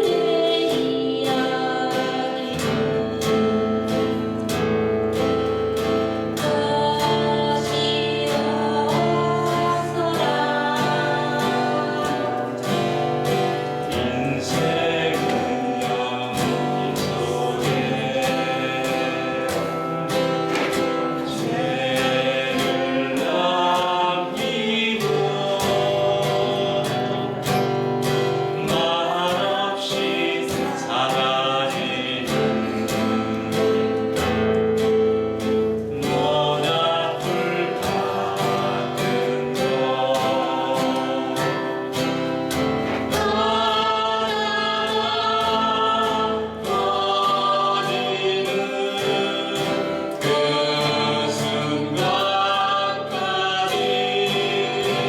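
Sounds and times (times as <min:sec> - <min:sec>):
acoustic guitar strumming: 0:00.0 - 0:55.0
two voices singing folk song: 0:00.0 - 0:55.0.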